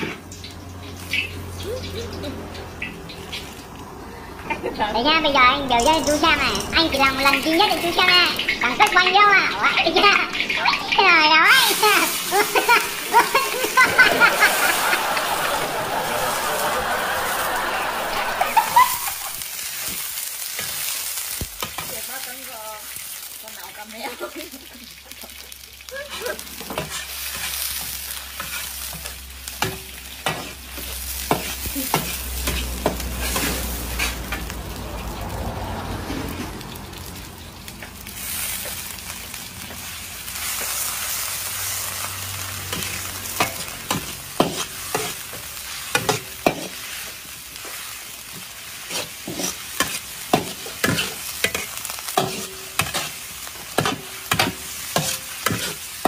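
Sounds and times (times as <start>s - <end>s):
hot oil sizzling: 0.0s - 56.0s.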